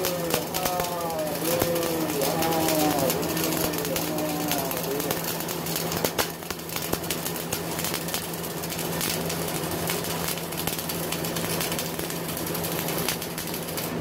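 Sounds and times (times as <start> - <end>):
welding arc crackling: 0.0 - 14.0.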